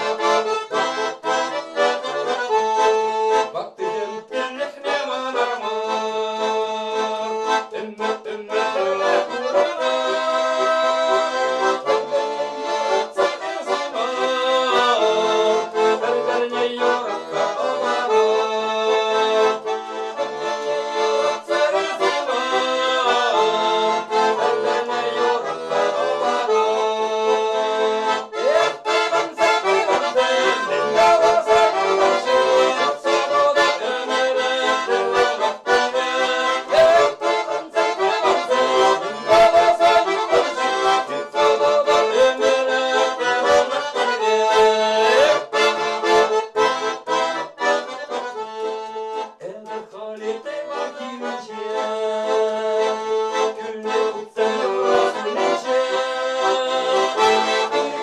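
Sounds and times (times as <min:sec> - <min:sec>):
button accordion folk melody: 0:00.0 - 0:58.0
man singing: 0:01.4 - 0:46.8, 0:47.8 - 0:58.0.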